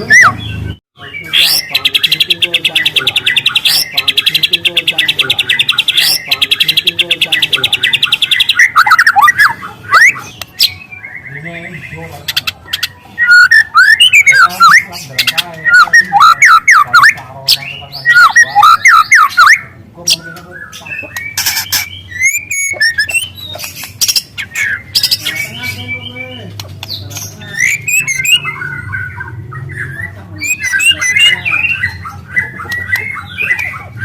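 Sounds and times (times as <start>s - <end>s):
bird singing whistled notes: 0.0s - 11.8s, 12.7s - 26.4s, 27.3s - 34.0s.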